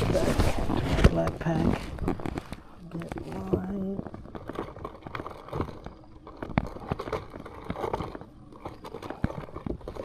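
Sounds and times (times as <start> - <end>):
gear rummaged in a pack: 0.0 - 10.0.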